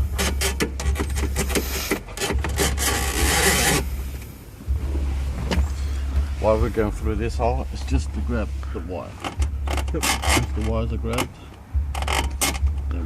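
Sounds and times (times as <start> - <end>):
tool scraping inside dashboard: 0.0 - 12.9
low hum: 0.0 - 13.0.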